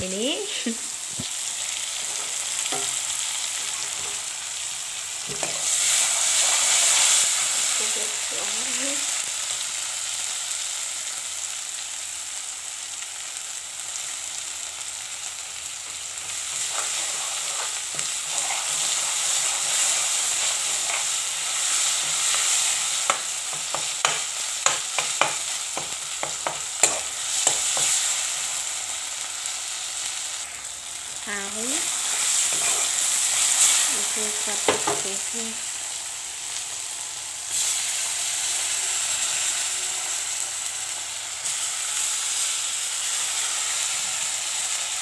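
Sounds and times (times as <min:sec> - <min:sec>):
vegetables sizzling in oil: 0:00.0 - 0:45.0.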